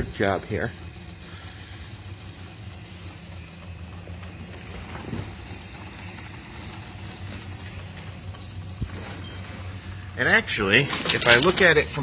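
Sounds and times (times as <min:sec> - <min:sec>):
printer motors humming: 0:00.0 - 0:12.0.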